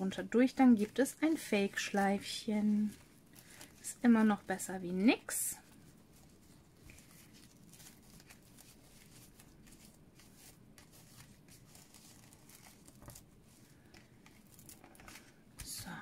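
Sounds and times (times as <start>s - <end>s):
ribbon rustling on paper card: 0.1s - 15.8s.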